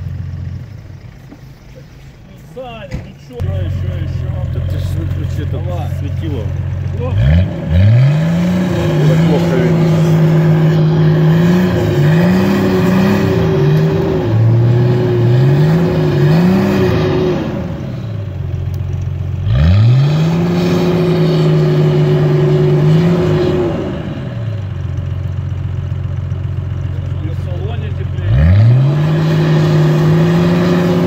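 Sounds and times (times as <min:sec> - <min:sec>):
vehicle engine revving: 0:03.3 - 0:31.0.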